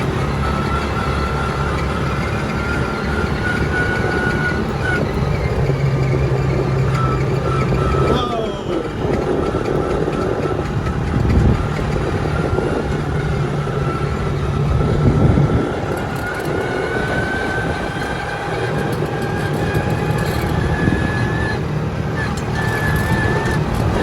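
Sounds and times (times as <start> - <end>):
quad bike engine running: 0.0 - 24.0.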